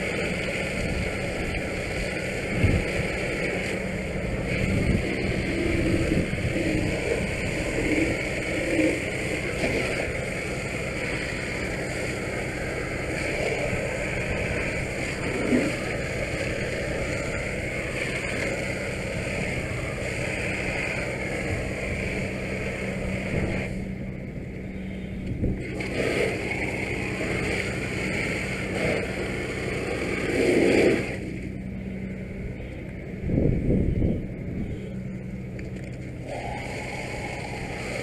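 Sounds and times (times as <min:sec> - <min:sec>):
hose spraying water and steam hiss: 0:00.0 - 0:24.0, 0:24.8 - 0:31.5, 0:36.1 - 0:38.0
pump humming: 0:00.0 - 0:38.0.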